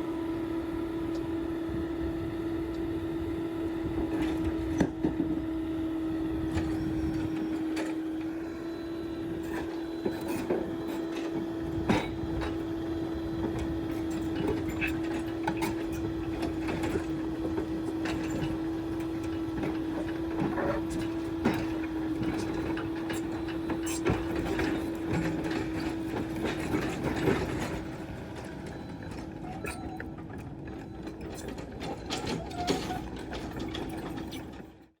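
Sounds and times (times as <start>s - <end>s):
excavator whine: 0.0s - 35.0s.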